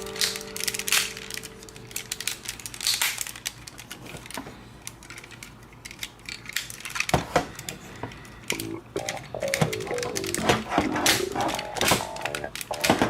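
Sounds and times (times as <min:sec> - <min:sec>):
plastic toy parts clicking: 0:00.2 - 0:13.0.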